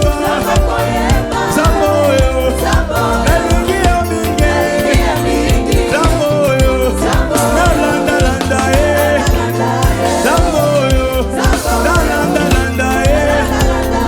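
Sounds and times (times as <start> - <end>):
bass and drums: 0.0 - 14.0
bending melody line: 0.0 - 14.0
keyboards: 0.0 - 14.0
worship band playing: 0.0 - 14.0.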